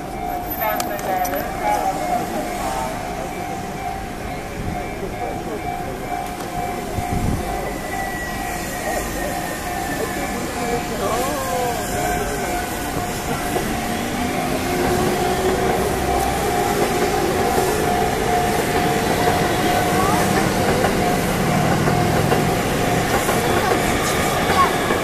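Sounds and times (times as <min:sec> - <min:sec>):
crowd murmur: 0:00.0 - 0:25.0
train wheels clattering on rails: 0:00.0 - 0:25.0.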